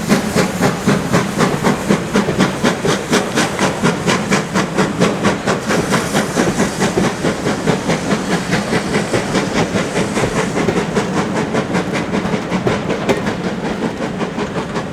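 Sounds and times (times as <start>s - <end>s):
steam hissing: 0.0s - 14.9s
steam locomotive chuffing: 0.0s - 14.9s.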